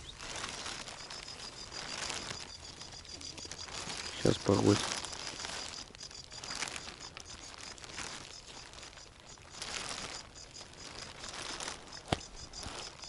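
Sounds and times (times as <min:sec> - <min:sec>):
plastic rustling and crinkling: 0:00.0 - 0:13.0.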